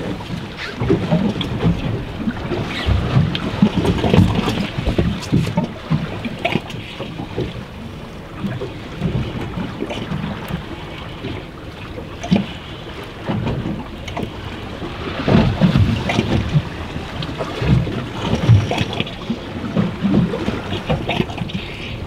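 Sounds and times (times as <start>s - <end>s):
choppy sea against boat hull: 0.0s - 22.0s
wind buffeting microphone: 0.0s - 22.0s.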